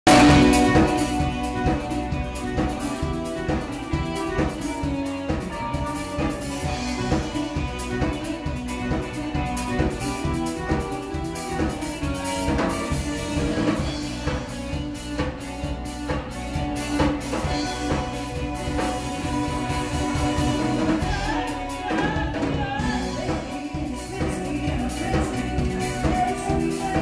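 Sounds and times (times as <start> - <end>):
drum kit beat: 0.0 - 27.0
electric guitar: 0.0 - 27.0
keyboard: 0.0 - 27.0.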